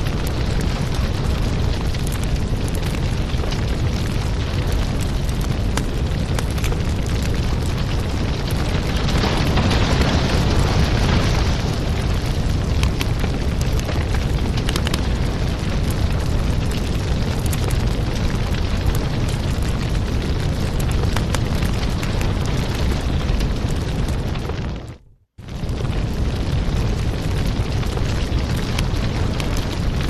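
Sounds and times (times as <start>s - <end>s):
low roar of flames: 0.0s - 30.0s
wood fire crackling and popping: 0.0s - 30.0s.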